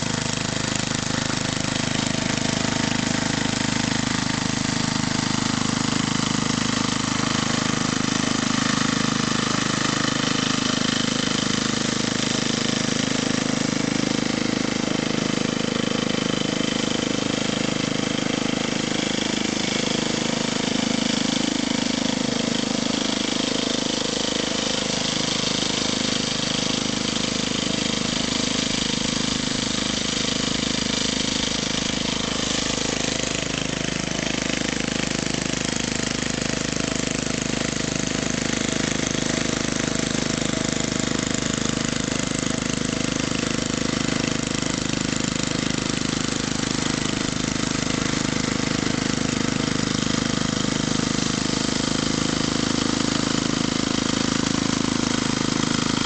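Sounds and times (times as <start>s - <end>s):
lawn mower running: 0.0s - 56.0s.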